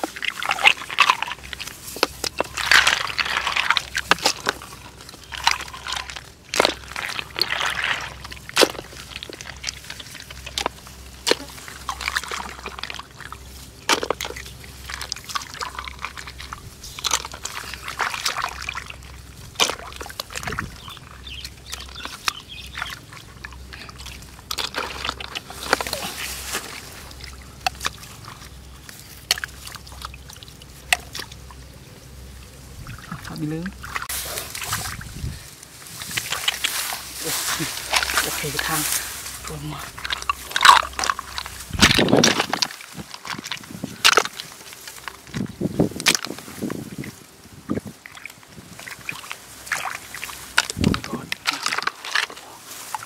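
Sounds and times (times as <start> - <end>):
hands splashing in muddy water: 0.0 - 31.6, 32.8 - 53.0.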